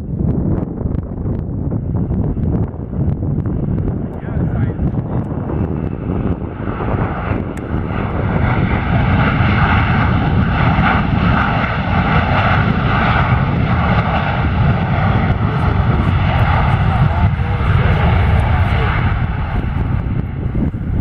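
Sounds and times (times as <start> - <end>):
jet engines rumbling and whining: 0.0 - 21.0.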